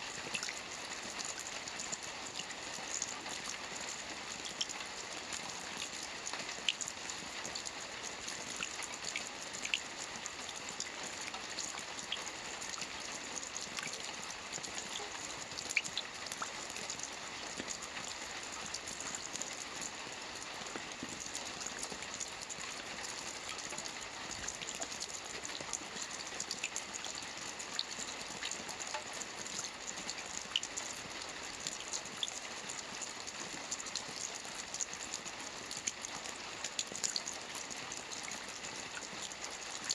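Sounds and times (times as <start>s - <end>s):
rain falling on water: 0.0s - 39.9s
raindrop ticks: 0.2s - 39.9s.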